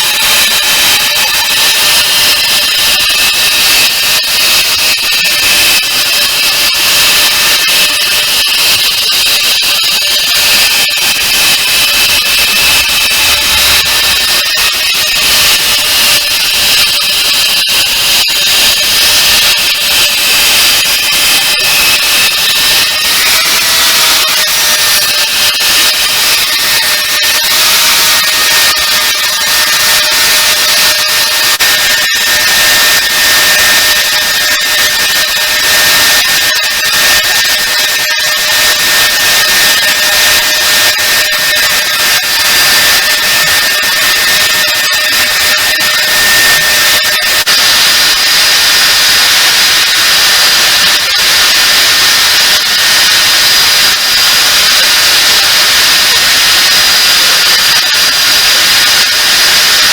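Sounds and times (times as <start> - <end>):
belt sander grinding: 0.0 - 59.6.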